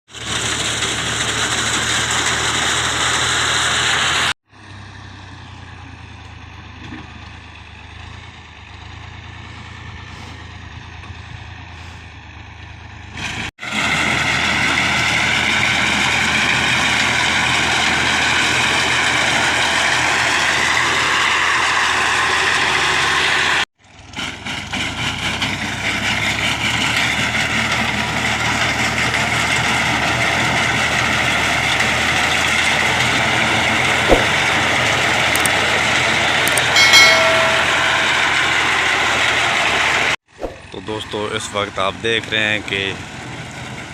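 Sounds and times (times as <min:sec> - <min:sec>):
harvesting machine engine running: 0:00.1 - 0:43.9.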